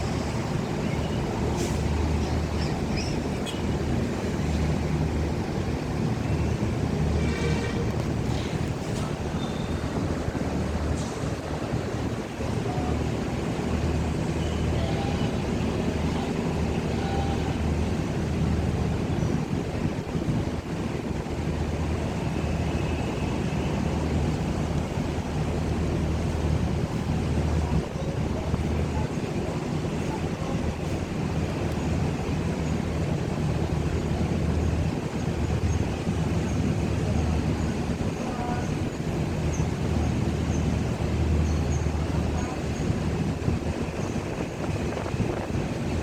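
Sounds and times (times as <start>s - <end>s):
ship engine droning: 0.0s - 46.0s
wind: 0.0s - 46.0s.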